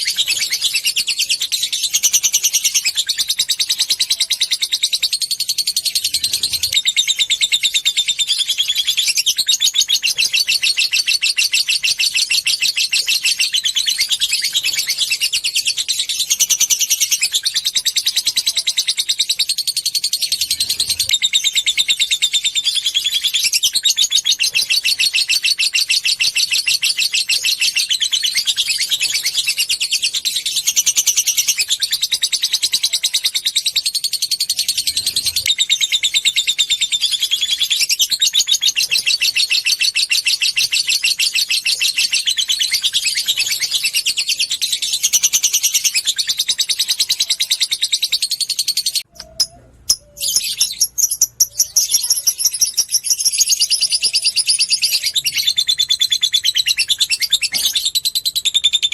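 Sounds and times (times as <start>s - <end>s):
lovebird chattering song: 0.0s - 58.9s.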